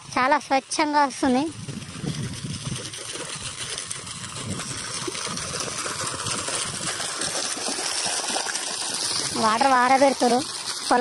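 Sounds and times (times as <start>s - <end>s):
water gushing through a channel: 0.0s - 11.0s.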